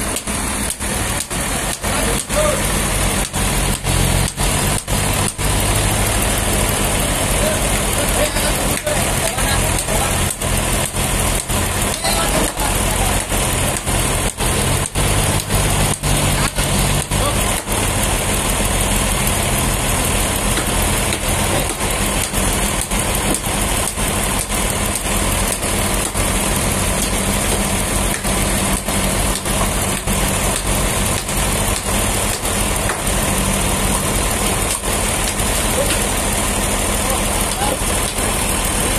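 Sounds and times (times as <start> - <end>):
forklift engine running under load: 0.0 - 38.9.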